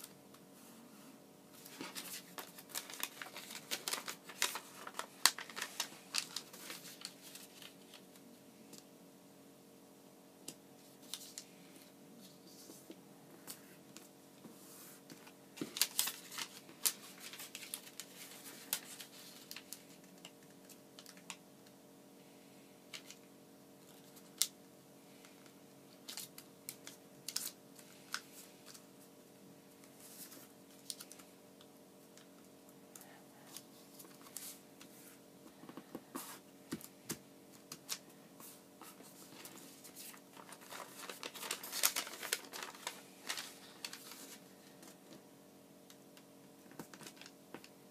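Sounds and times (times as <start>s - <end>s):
faint steady hum: 0.0s - 47.9s
paper folding crackles: 1.6s - 8.3s, 10.9s - 21.4s, 22.9s - 29.0s, 29.8s - 45.3s, 46.0s - 47.9s.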